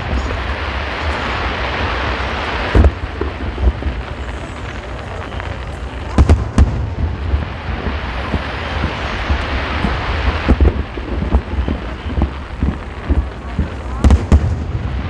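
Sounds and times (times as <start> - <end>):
continuous low rumble: 0.0 - 15.0
fireworks bangs: 0.0 - 15.0.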